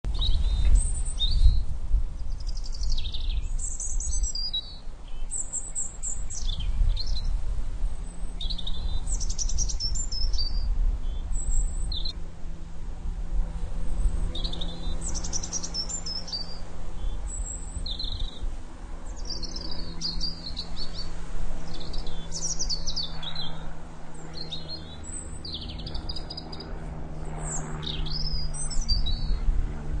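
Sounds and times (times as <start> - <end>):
birds singing and chirping: 0.1 - 7.4, 8.0 - 12.2, 14.0 - 29.8
steady low hum: 0.1 - 30.0.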